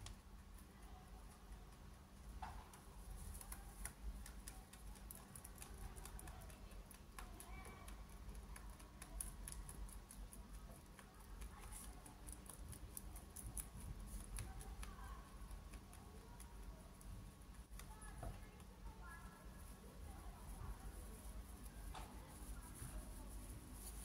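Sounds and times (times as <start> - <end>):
rabbit chewing hay: 0.0 - 24.0.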